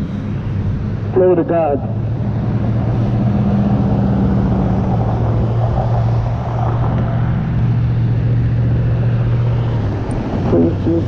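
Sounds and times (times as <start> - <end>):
car engines droning: 0.0 - 11.0.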